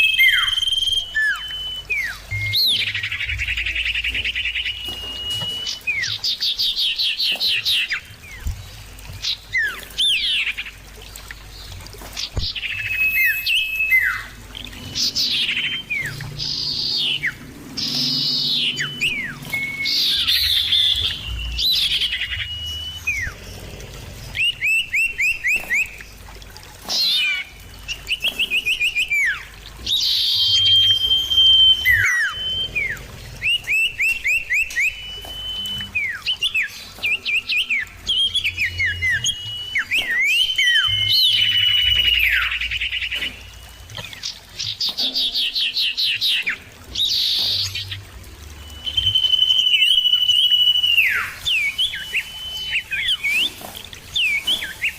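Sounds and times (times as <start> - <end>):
bird whistled calls: 0.0 - 10.6, 12.4 - 23.4, 26.9 - 48.0, 48.6 - 54.9.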